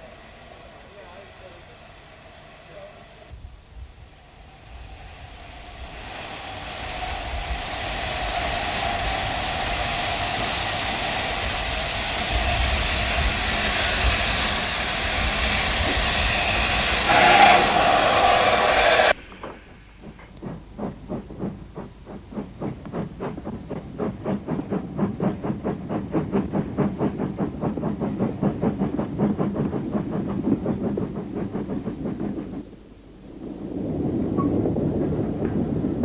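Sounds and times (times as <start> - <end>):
locomotive steam hiss: 0.0 - 33.5
locomotive exhaust chuffs: 0.0 - 36.0.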